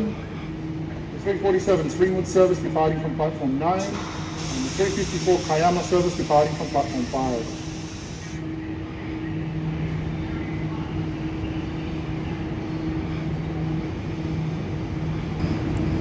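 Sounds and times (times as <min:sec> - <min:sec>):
electric train hum: 0:00.0 - 0:16.0
train low rumble: 0:00.0 - 0:16.0.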